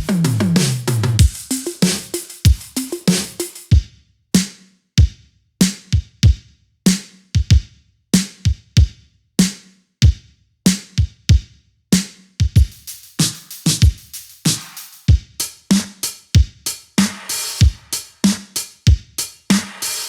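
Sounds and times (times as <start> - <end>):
drum machine beat: 0.0 - 20.0.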